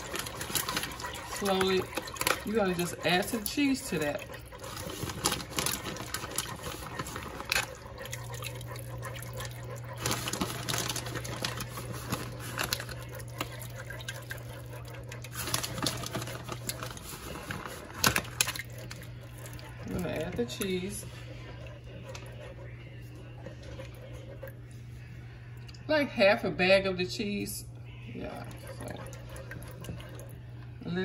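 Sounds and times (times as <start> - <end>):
whisk stirring sauce in saucepan: 0.0 - 25.5, 28.3 - 30.8
steady low hum: 0.0 - 31.0.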